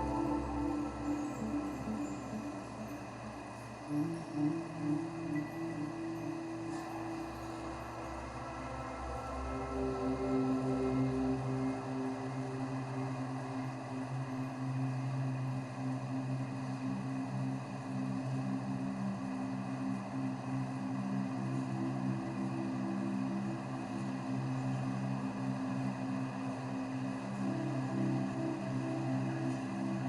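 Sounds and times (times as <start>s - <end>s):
machinery hum: 0.0s - 30.0s.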